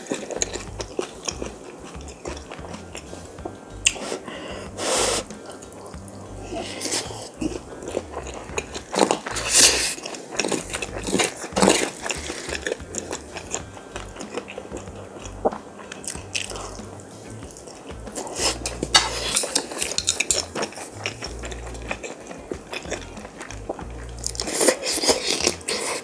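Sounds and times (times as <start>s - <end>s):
close chewing: 0.0s - 26.0s.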